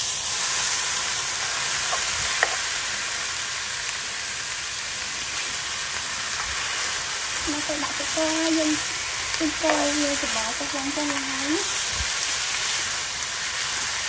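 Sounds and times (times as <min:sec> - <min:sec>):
meat sizzling in wok: 0:00.0 - 0:14.0.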